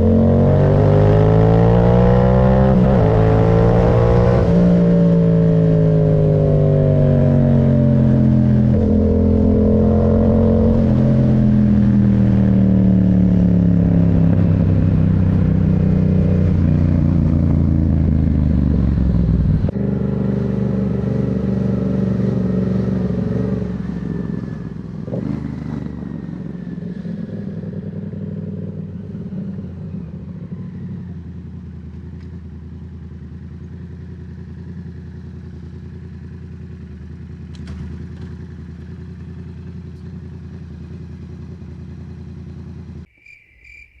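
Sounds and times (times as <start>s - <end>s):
motorcycle engine: 0.0s - 43.1s.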